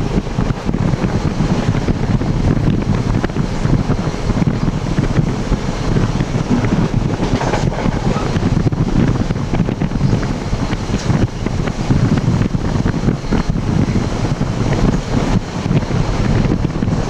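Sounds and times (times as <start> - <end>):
train running rumble: 0.0 - 17.0
wind buffeting microphone: 0.0 - 17.0.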